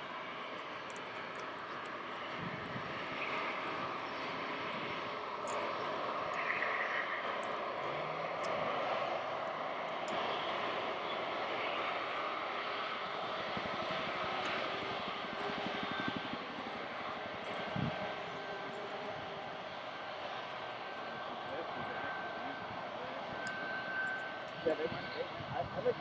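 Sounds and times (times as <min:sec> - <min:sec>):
airliner engines rushing: 0:00.0 - 0:26.0.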